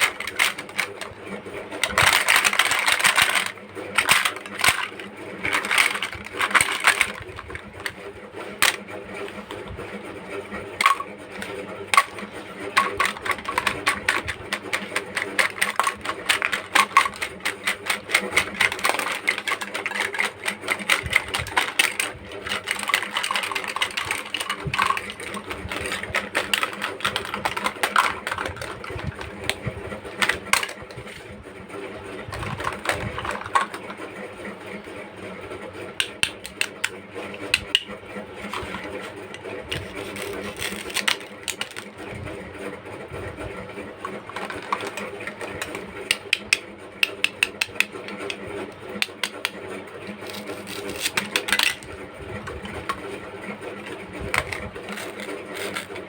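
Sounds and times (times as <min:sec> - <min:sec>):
plastic toy pieces clicking: 0:00.0 - 0:09.5, 0:10.8 - 0:31.2, 0:32.3 - 0:34.0, 0:36.0 - 0:42.0, 0:44.0 - 0:53.1, 0:53.8 - 0:56.0.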